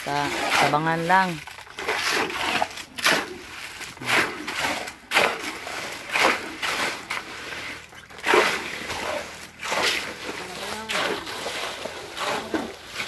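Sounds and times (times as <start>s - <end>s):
shovels scraping wet concrete: 0.0s - 13.0s.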